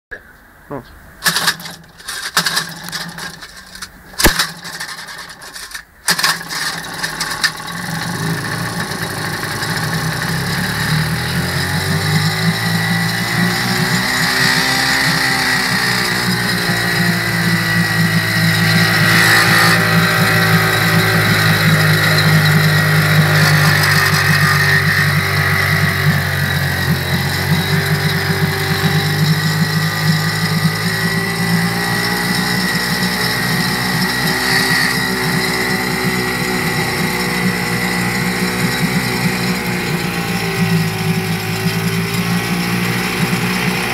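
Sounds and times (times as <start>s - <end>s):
outboard motor running: 1.2s - 43.9s.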